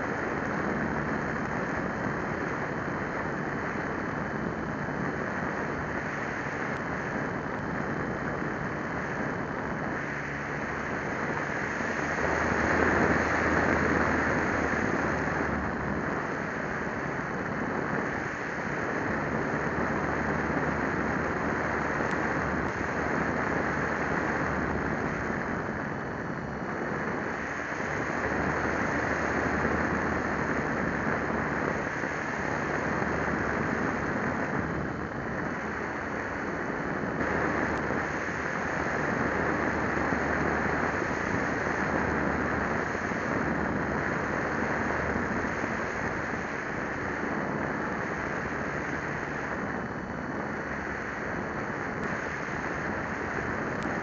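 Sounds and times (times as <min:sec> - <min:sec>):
motor and propeller droning: 0:00.0 - 0:54.0
wind rushing over microphone: 0:00.0 - 0:54.0.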